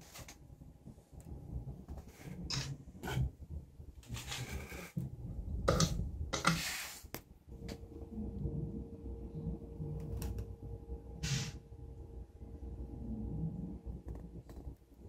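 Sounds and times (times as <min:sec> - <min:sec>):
low indoor rumble: 0:00.0 - 0:06.4, 0:07.0 - 0:15.0
faint steady hum: 0:00.0 - 0:15.0.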